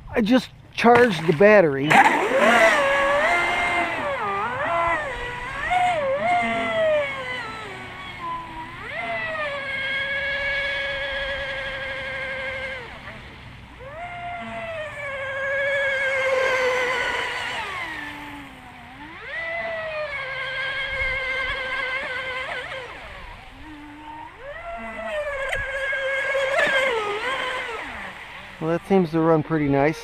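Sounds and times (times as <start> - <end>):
electric motor whining: 0.9 - 30.0.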